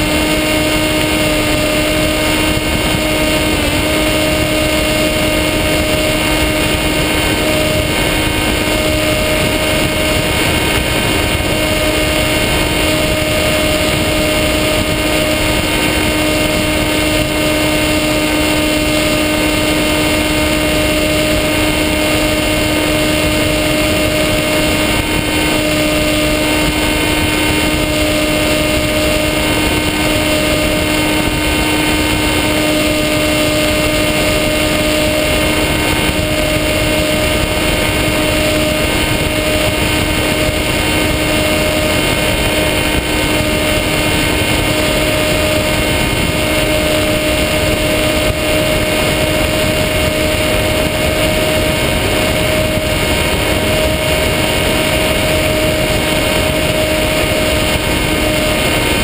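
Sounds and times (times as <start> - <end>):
model plane motor humming: 0.0 - 59.0
rush of air: 0.0 - 59.0.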